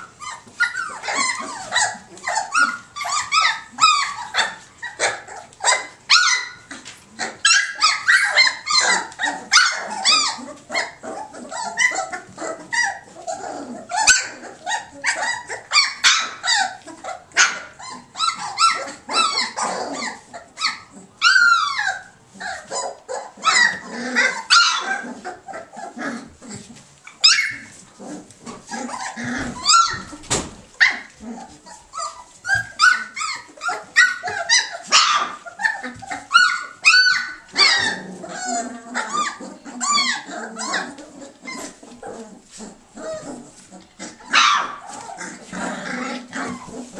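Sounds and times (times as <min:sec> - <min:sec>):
puppies yipping and barking: 0:00.0 - 0:46.9.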